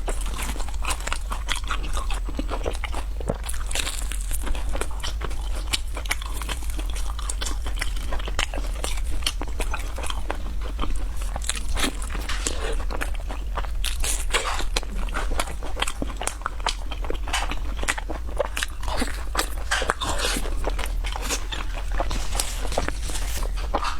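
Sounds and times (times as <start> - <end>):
crunching and chewing snacks: 0.0 - 23.9.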